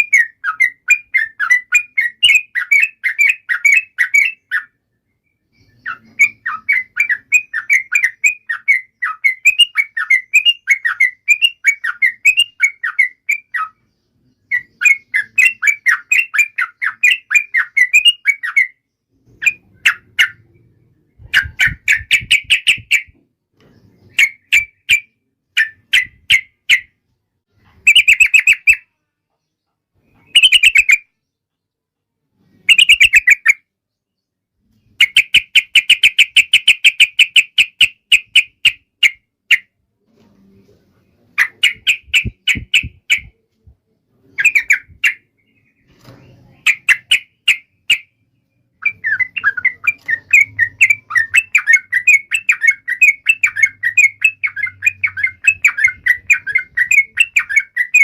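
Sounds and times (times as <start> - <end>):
bulbul singing: 0.0 - 27.0, 27.7 - 31.5, 32.6 - 39.8, 41.4 - 58.0.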